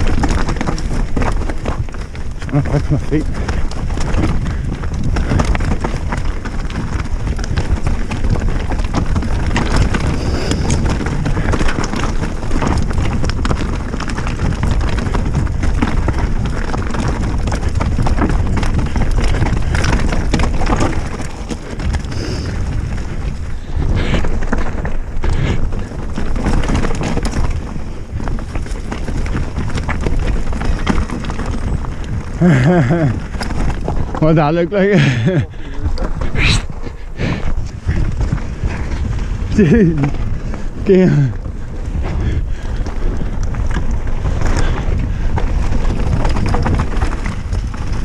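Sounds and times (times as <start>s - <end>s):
bike clattering over bumps: 0.0s - 48.0s
tyres crunching over stones: 0.0s - 48.0s
wind buffeting microphone: 0.0s - 48.0s.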